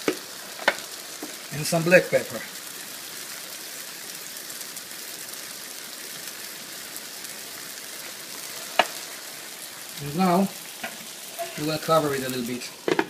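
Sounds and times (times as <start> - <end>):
sauce sizzling in frying pan: 0.0 - 13.0.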